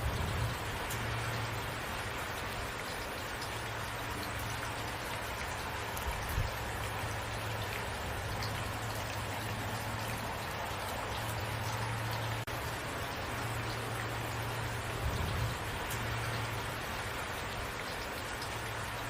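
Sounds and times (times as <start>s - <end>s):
individual raindrops: 0.0s - 19.0s
steady rainfall: 0.0s - 19.0s.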